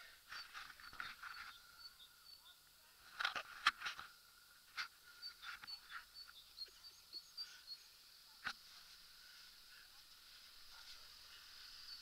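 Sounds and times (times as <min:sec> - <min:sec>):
faint high chirps: 0:00.0 - 0:03.1, 0:04.8 - 0:12.0.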